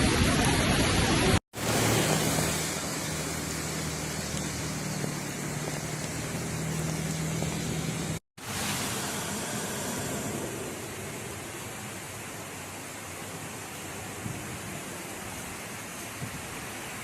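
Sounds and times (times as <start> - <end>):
heavy rain rushing: 0.0 - 17.0.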